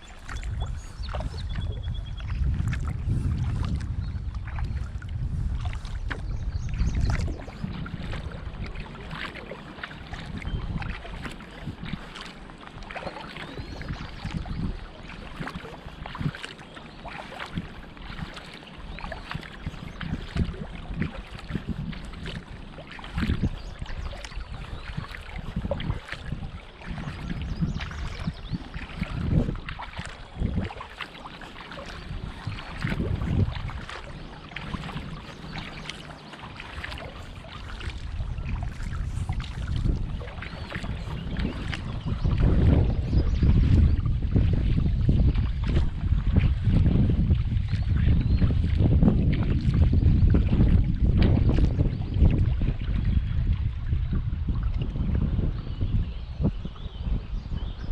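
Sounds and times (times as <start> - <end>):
paddle splashing water: 0.0 - 57.9
wind buffeting microphone: 0.0 - 57.9.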